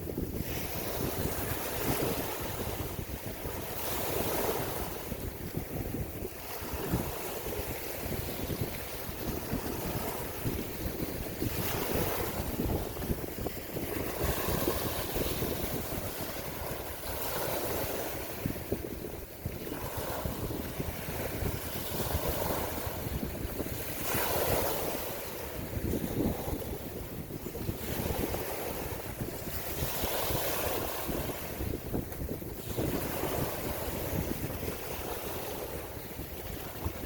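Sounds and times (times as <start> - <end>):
ocean waves washing onto shore: 0.0 - 37.0
wind buffeting microphone: 0.0 - 37.0.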